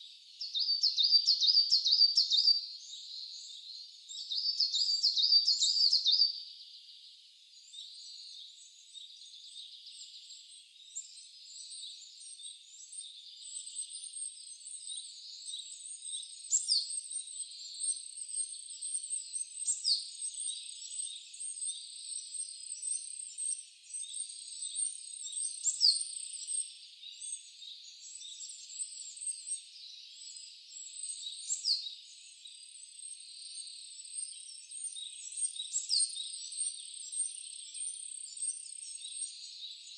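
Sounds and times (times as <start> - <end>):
songbirds calling: 0.0 - 39.9.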